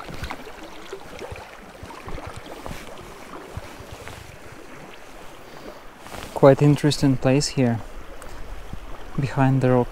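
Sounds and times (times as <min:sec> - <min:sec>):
wind on microphone: 0:00.0 - 0:06.4, 0:07.6 - 0:09.9
river water flowing: 0:00.0 - 0:09.9.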